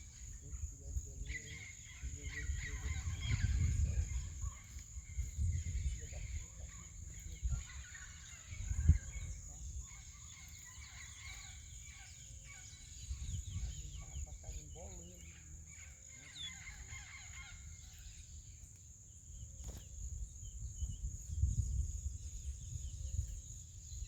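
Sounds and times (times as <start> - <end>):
faint bird chirps and calls: 0.0 - 24.0.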